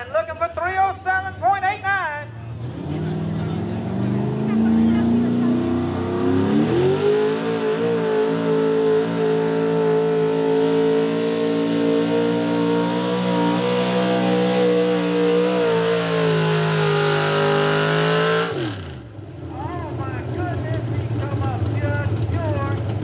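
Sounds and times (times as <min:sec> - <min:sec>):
truck engine at high revs: 0:02.3 - 0:23.0.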